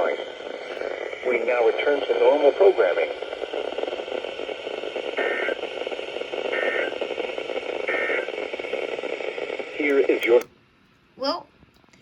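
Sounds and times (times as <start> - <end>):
radio hiss and static: 0.0 - 10.5.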